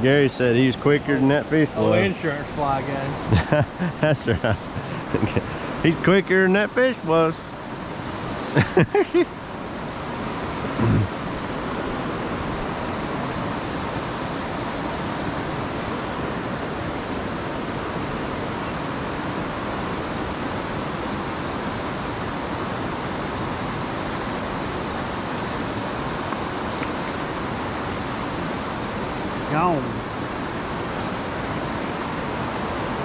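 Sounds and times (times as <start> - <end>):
river rushing over rocks: 4.5 - 33.0.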